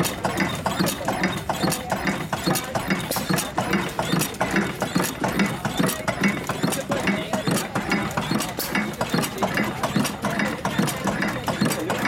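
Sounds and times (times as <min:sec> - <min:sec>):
stationary gas engine knocking: 0:00.0 - 0:12.0.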